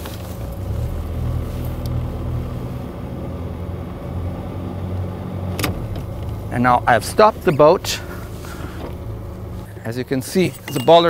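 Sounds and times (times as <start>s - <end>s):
diesel engine low drone: 0.0s - 11.0s.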